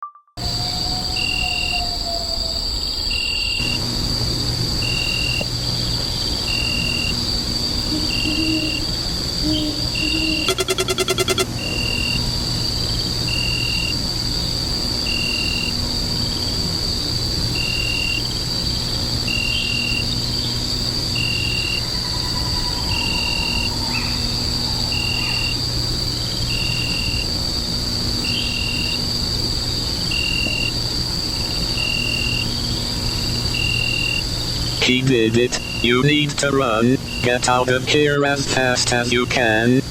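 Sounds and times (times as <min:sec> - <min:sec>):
cricket chirp: 0:00.4 - 0:39.9
insect drone: 0:00.4 - 0:39.9
low steady hum: 0:03.6 - 0:39.9.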